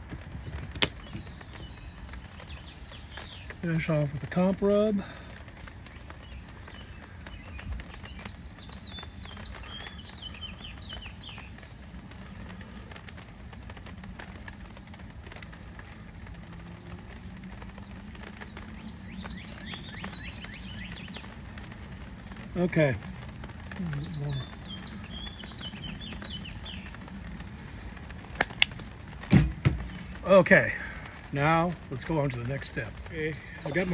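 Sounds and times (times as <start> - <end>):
songbird chirping: 0.3 - 5.1, 5.7 - 13.2, 15.3 - 33.9.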